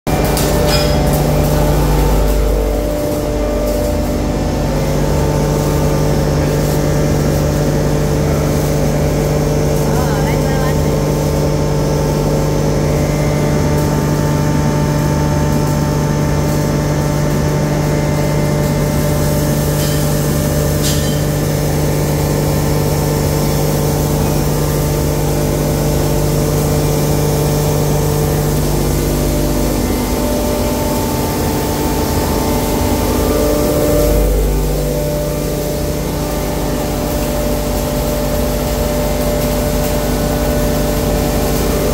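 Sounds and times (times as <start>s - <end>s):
grinding mill motor hum and whine: 0.1s - 41.9s.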